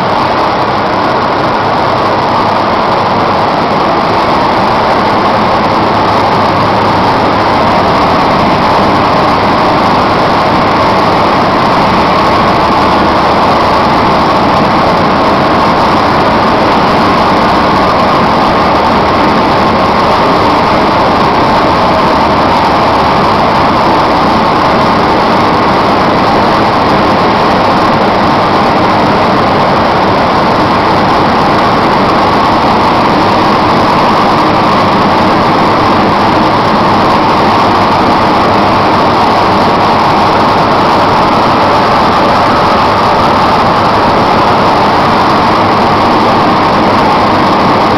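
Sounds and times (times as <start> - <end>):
coffee dryer running: 0.0 - 47.9
low hum: 0.0 - 47.9.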